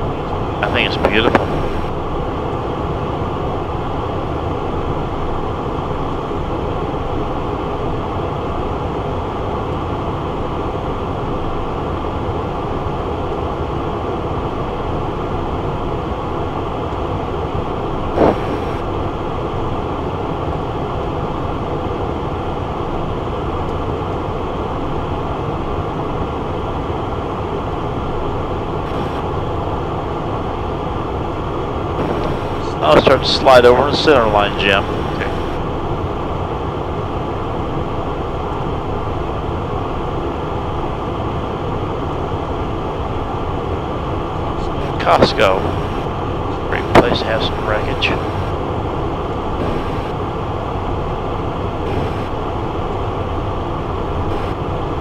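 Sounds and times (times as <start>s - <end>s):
airflow rushing in cockpit: 0.0s - 55.0s
jet engines: 0.0s - 55.0s.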